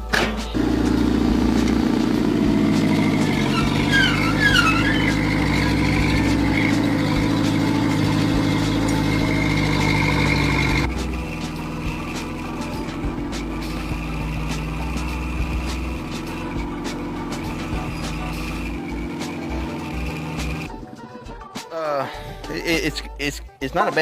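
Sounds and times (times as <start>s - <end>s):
bulldozer engine running: 0.0s - 20.7s.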